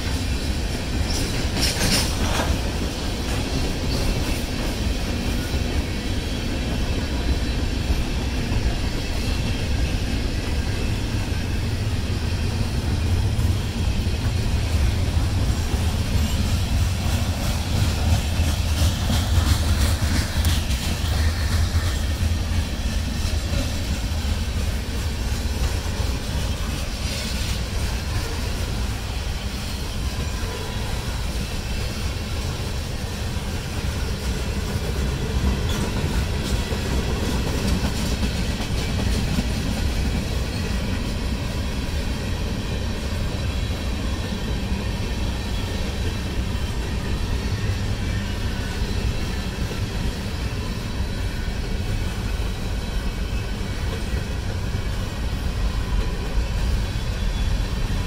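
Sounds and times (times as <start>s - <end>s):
freight train rolling past: 0.0s - 58.0s
steel wheels on rails: 0.0s - 58.0s.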